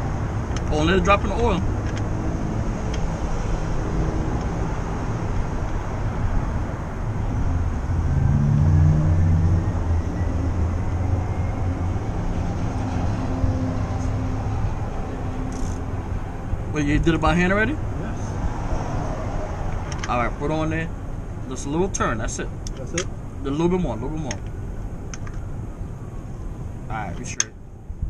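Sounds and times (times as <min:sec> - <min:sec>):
low rumble of vehicles: 0:00.0 - 0:28.0.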